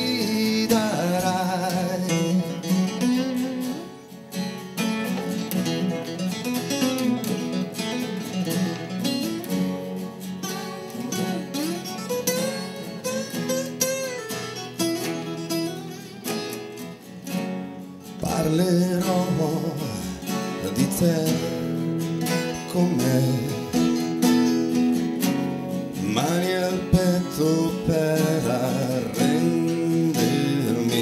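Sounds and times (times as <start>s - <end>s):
acoustic bass guitar: 0.0s - 31.0s
acoustic guitar strumming: 0.0s - 31.0s.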